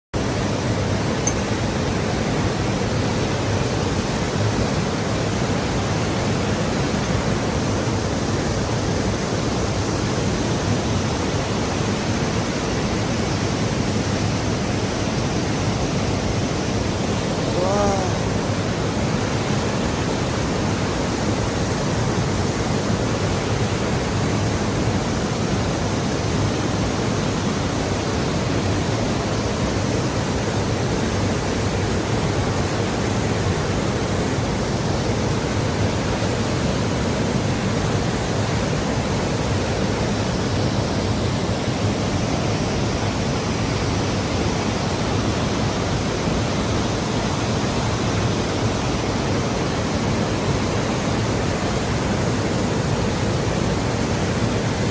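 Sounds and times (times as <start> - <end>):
waterfall rushing: 0.2 - 54.9.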